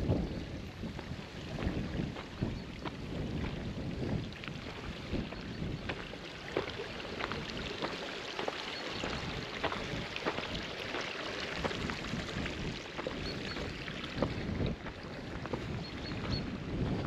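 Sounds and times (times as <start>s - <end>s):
brook running over stones: 0.0s - 17.0s.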